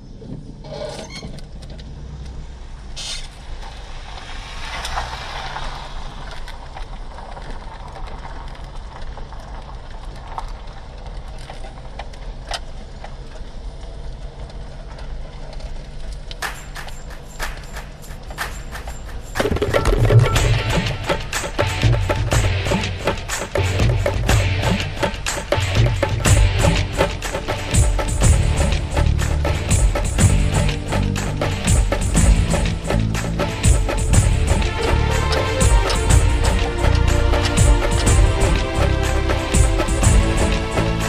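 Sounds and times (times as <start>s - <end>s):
car engine and tyre rumble: 0.0s - 41.0s.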